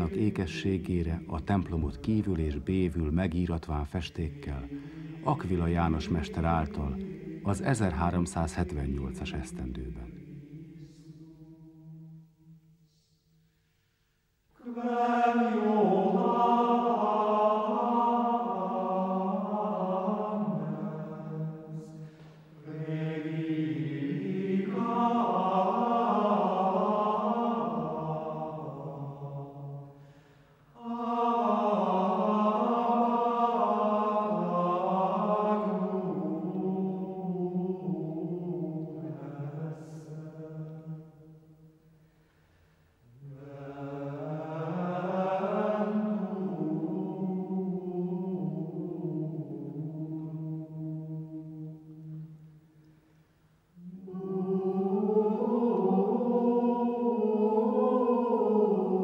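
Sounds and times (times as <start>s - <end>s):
unaccompanied chant singing: 0.0s - 13.2s, 14.6s - 30.1s, 30.7s - 41.7s, 43.0s - 52.4s, 53.8s - 59.0s.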